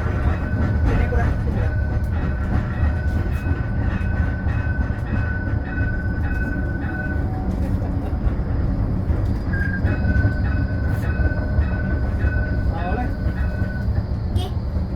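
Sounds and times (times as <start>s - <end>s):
tram running gear rumble: 0.0s - 14.9s.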